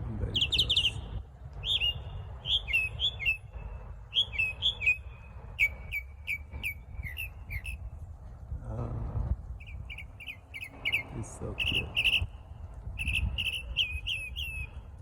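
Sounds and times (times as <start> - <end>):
songbird singing: 0.0 - 8.6, 9.4 - 15.0
steady low rumble: 0.0 - 15.0.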